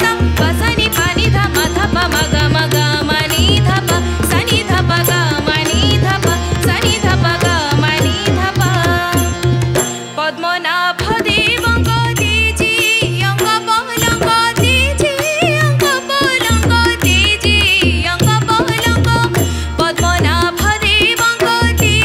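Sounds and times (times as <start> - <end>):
harmonium: 0.0 - 22.0
woman singing ornamented melody: 0.0 - 22.0.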